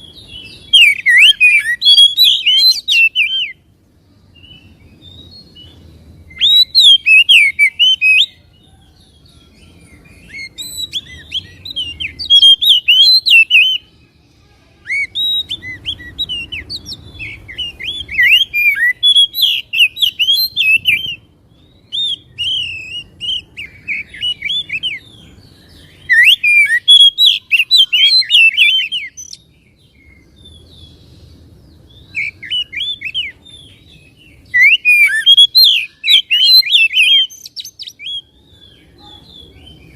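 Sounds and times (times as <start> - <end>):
bird song chirps and whistles: 0.0 - 3.7, 4.3 - 14.0, 14.8 - 39.9.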